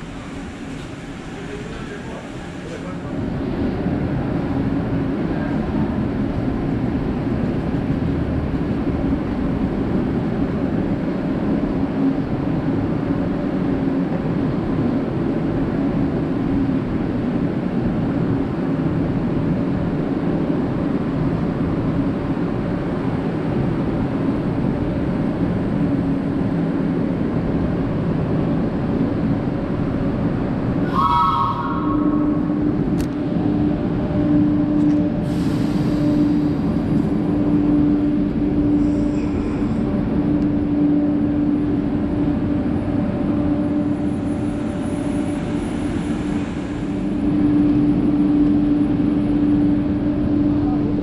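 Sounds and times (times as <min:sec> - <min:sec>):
electric train hum and rumble: 0:00.0 - 0:51.0.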